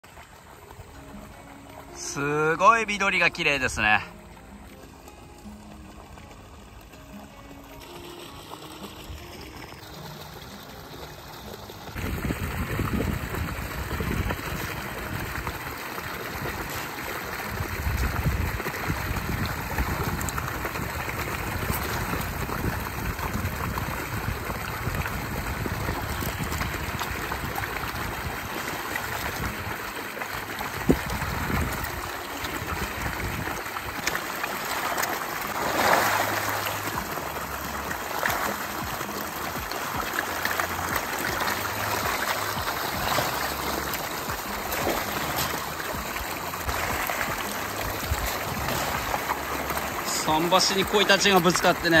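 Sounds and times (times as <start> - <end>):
fish splashing at water surface: 5.6 - 52.0.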